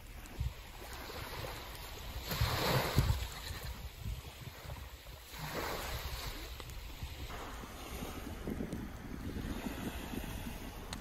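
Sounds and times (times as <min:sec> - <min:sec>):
waves washing on shore: 0:00.0 - 0:11.0
wind buffeting microphone: 0:00.0 - 0:11.0.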